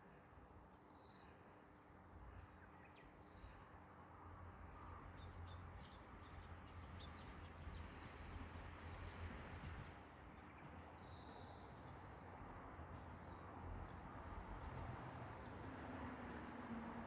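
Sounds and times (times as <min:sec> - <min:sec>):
insects chirping: 0:00.0 - 0:07.9, 0:08.6 - 0:10.4, 0:11.0 - 0:16.0.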